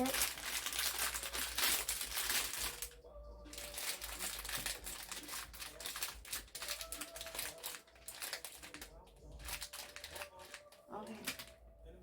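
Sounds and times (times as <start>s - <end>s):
plastic packaging rustling: 0.0s - 11.7s.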